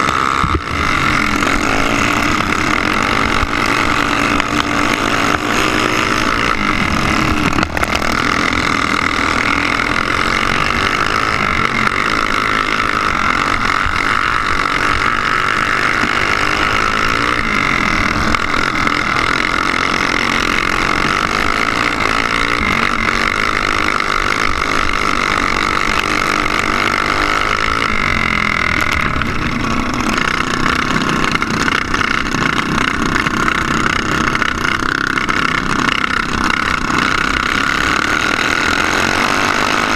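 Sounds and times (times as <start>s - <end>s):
go-kart engine buzzing: 0.0s - 39.9s.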